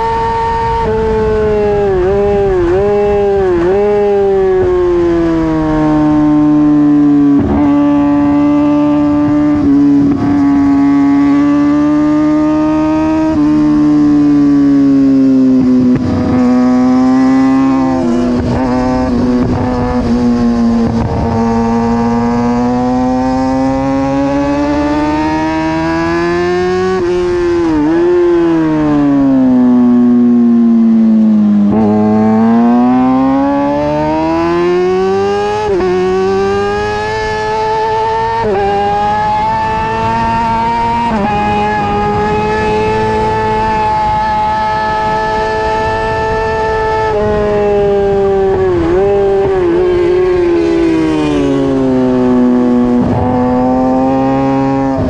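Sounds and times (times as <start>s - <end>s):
motorcycle engine at high revs: 0.0s - 55.0s
wind noise: 0.0s - 55.0s.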